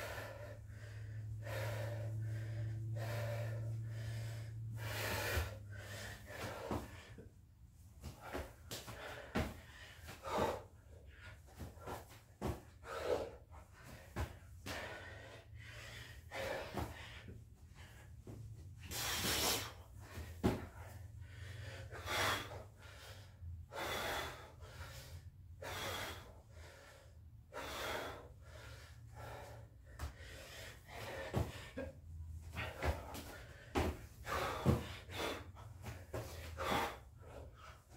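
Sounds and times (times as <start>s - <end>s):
man breathing hard: 0.0s - 37.9s.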